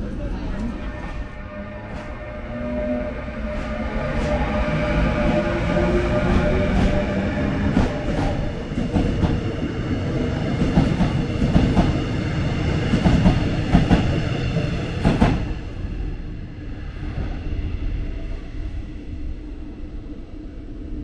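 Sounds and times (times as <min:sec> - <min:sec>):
passenger train rumbling past: 0:00.0 - 0:21.0.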